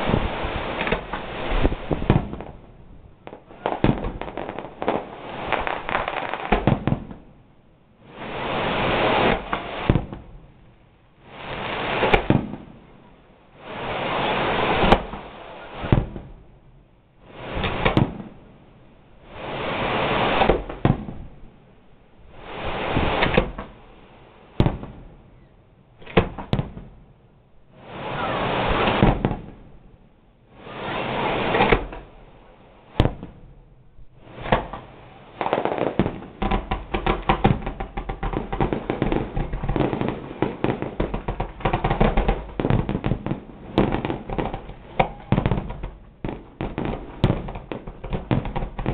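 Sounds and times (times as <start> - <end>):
firework hiss and bang: 0.0 - 7.4, 8.0 - 48.9
firework crackling and popping: 0.0 - 27.0, 27.7 - 48.9.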